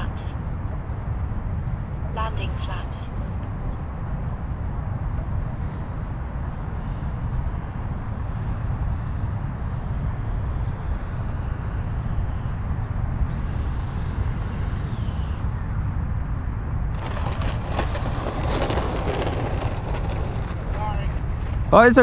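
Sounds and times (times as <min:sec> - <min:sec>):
steady low rumble: 0:00.0 - 0:13.4, 0:15.4 - 0:22.0
jet fan whine: 0:00.0 - 0:22.0.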